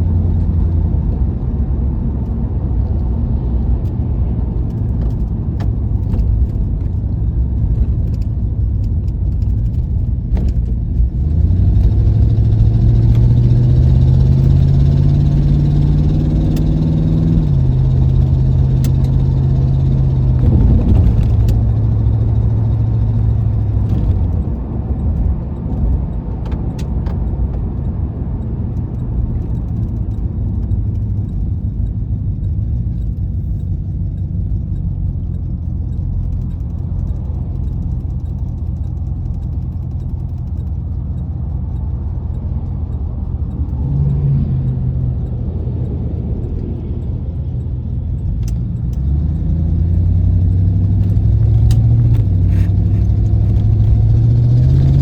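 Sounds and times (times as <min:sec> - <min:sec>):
car engine and exhaust running: 0:00.0 - 0:55.0.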